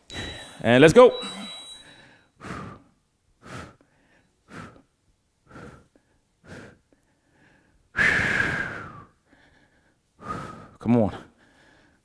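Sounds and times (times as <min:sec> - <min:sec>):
man breathing hard: 0:01.2 - 0:12.0.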